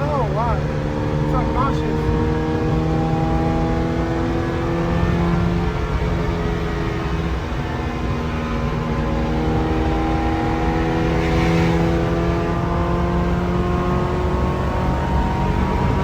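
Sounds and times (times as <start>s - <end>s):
loud car engine running: 0.0s - 16.0s.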